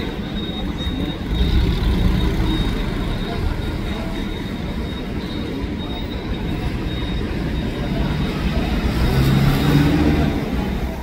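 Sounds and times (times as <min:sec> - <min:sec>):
bus and van driving past: 0:00.0 - 0:11.0.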